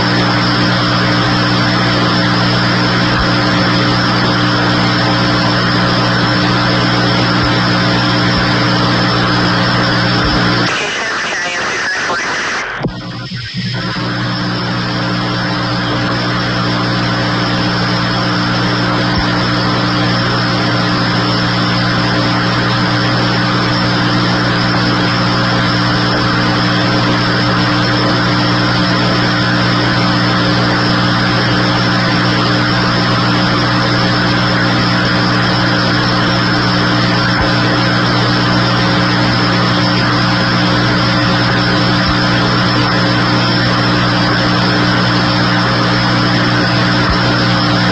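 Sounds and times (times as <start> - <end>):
motor humming steadily: 0.0 - 47.9.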